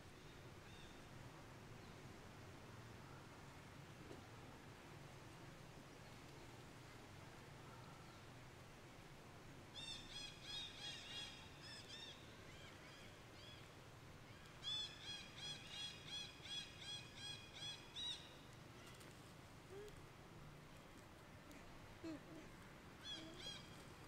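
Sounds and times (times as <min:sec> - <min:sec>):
faint background noise: 0:00.0 - 0:24.0.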